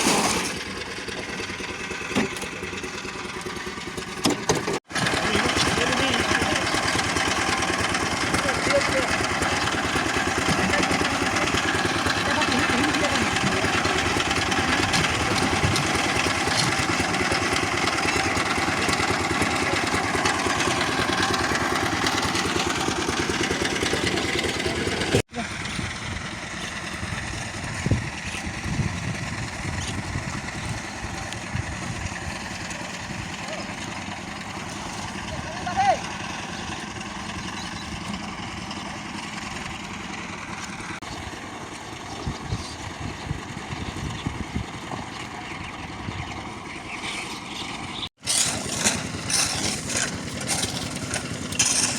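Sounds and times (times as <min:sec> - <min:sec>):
concrete mixer engine running: 0:00.0 - 0:51.9.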